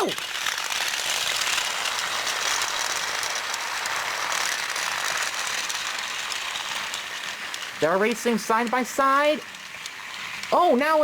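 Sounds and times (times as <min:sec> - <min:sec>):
toy train motors whirring: 0:00.0 - 0:11.0.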